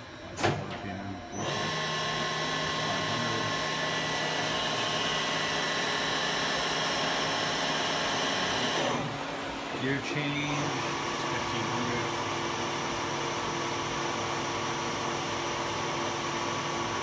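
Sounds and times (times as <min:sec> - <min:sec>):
machine spindle whirring hum: 0:00.0 - 0:17.0.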